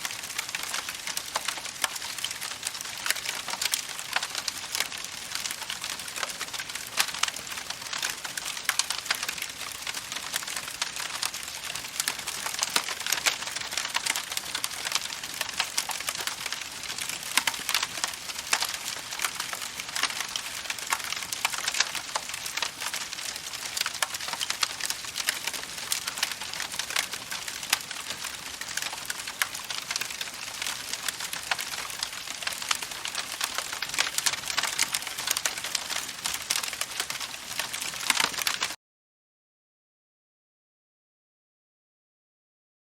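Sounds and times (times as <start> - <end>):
campfire crackling and popping: 0.0 - 38.8.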